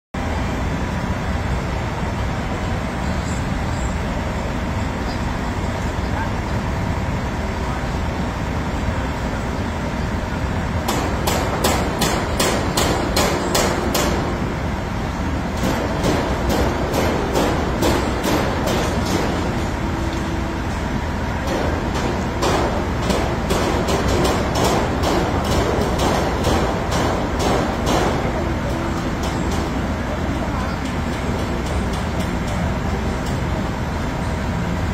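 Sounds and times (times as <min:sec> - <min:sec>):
traffic rumble: 0:00.2 - 0:34.9.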